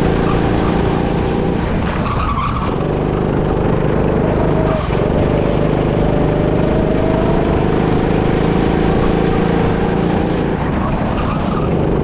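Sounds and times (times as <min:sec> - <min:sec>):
go-kart motor running: 0:00.0 - 0:12.0.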